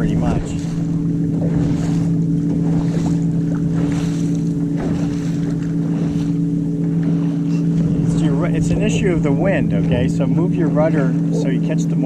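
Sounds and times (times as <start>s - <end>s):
wind buffeting microphone: 0.0s - 11.6s
steady low hum: 0.0s - 12.0s
water rushing along hull: 0.0s - 12.0s.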